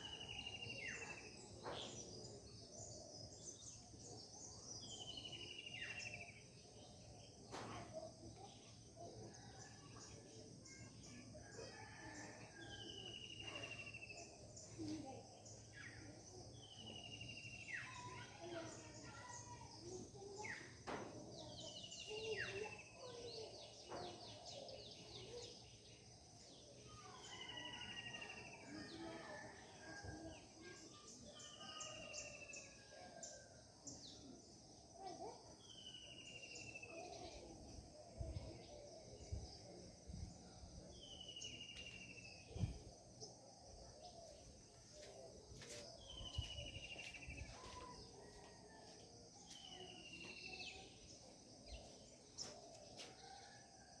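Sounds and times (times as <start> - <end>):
bird song phrase: 0.0 - 53.9.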